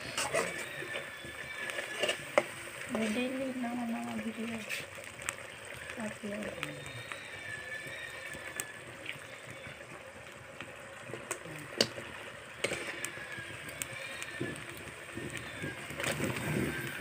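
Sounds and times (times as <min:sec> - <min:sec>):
gravy bubbling in a wok: 0:00.0 - 0:17.0.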